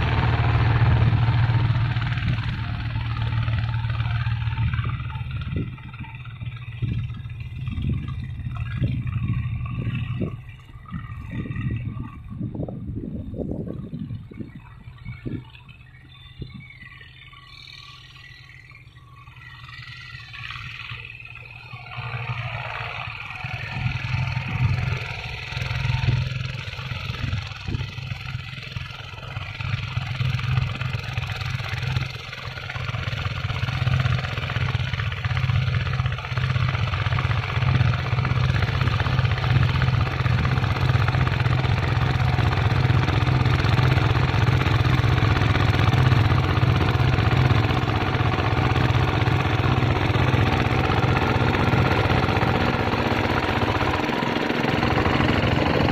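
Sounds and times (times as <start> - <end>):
diesel tractor engine running: 0.0 - 55.9.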